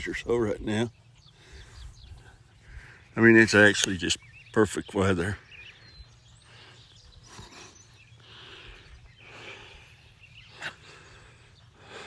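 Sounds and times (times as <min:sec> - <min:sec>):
soft scattered chirping: 0:00.0 - 0:12.0.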